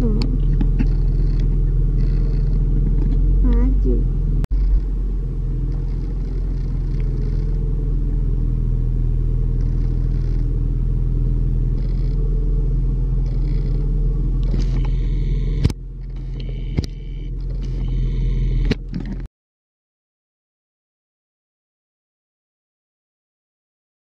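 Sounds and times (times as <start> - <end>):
car engine idling: 0.0 - 19.3
quiet hum: 0.0 - 19.3.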